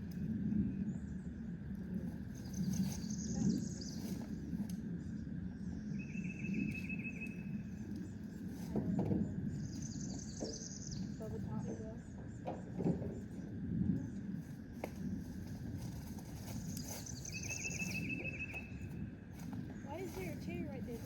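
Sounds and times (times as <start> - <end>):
songbirds singing: 0.0 - 21.0
steady low rumble: 0.0 - 21.0.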